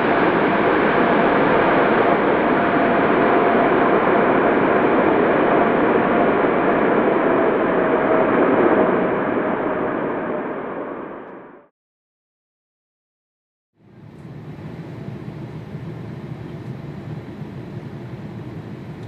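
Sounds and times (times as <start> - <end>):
airliner jet engines roaring: 0.0 - 11.7, 13.8 - 19.0.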